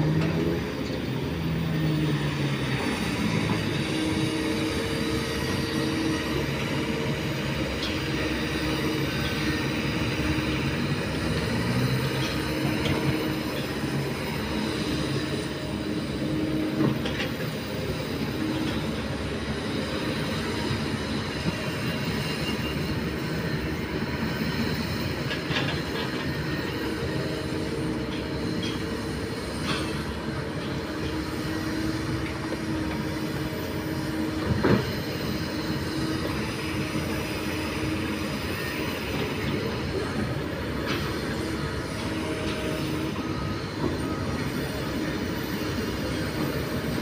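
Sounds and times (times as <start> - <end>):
excavator diesel engine running: 0.0 - 47.0.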